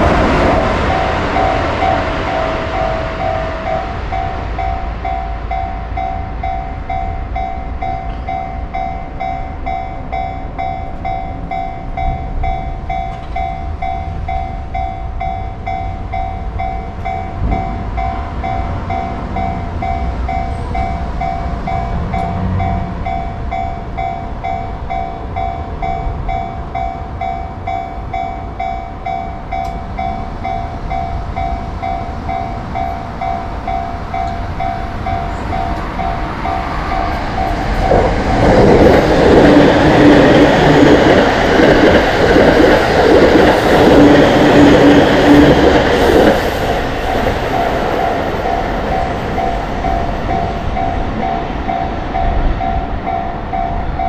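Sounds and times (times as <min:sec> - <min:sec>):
level-crossing warning bell: 0:00.0 - 0:54.0.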